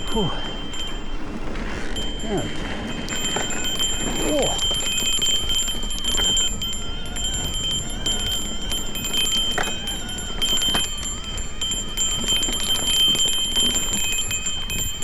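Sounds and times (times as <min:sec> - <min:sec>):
bicycle freehub ticking: 0:00.0 - 0:15.0
bike frame and chain rattle: 0:00.0 - 0:15.0
wind rumble on microphone: 0:00.0 - 0:15.0.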